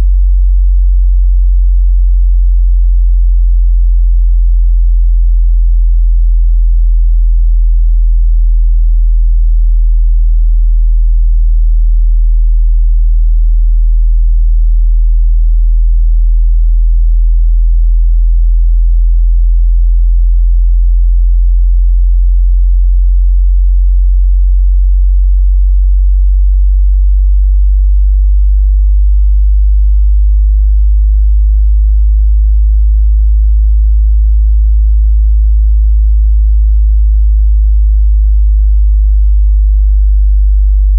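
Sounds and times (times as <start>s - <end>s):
sub-bass sine tone: 0.0s - 40.9s.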